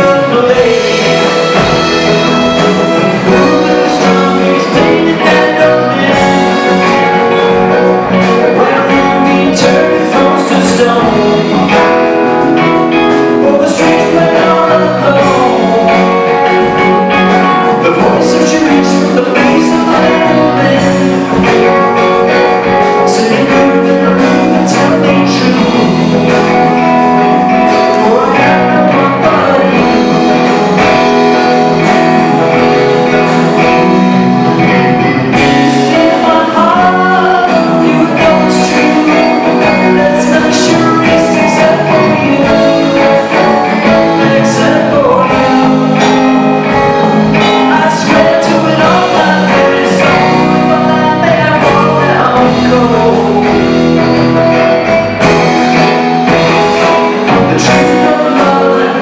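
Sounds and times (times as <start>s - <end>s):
drum kit: 0.0s - 59.0s
electric guitar: 0.0s - 59.0s
keyboards: 0.0s - 59.0s.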